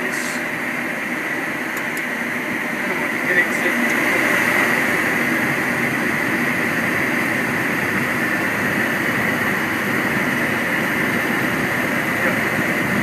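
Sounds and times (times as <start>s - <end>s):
aircraft rolling down runway: 0.0s - 13.0s
jet engines at takeoff thrust: 0.0s - 13.0s.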